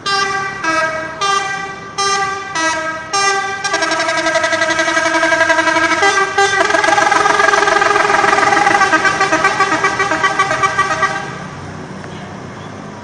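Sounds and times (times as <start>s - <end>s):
multi-tone musical horn: 0.0s - 11.4s.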